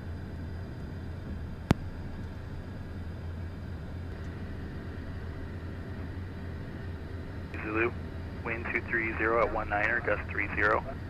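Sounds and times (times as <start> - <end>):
jet cockpit hum: 0.0 - 11.0.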